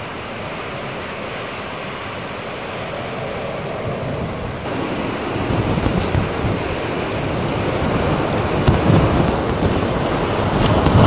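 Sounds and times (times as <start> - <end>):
gusty wind rushing through trees: 0.0 - 11.0
wind buffeting microphone: 0.0 - 11.0.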